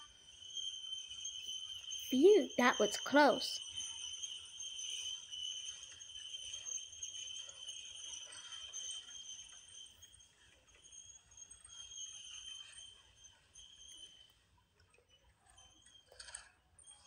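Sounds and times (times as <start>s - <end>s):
high jingling ring: 0.0s - 14.4s
toy train rolling on track: 0.0s - 17.0s.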